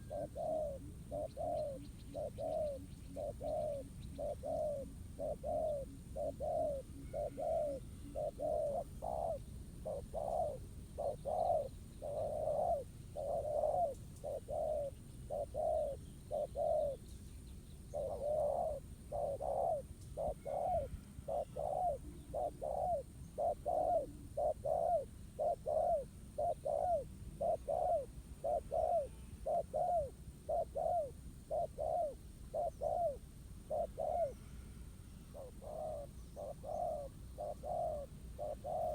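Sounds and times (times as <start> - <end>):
dove cooing: 0.0 - 17.0, 17.9 - 34.6, 35.3 - 38.9.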